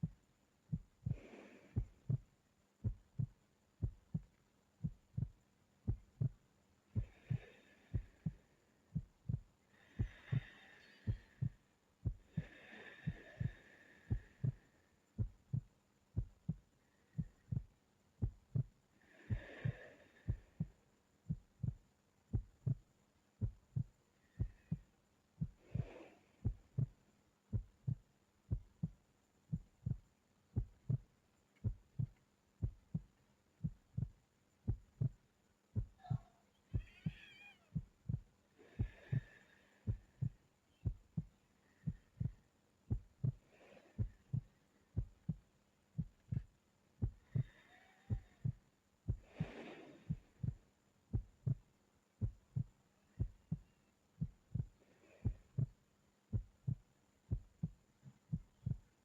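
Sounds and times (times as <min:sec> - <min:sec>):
heartbeat thumps: 0:00.0 - 0:06.4, 0:07.0 - 0:59.0
soft breathing of sleeping person: 0:00.0 - 0:59.0.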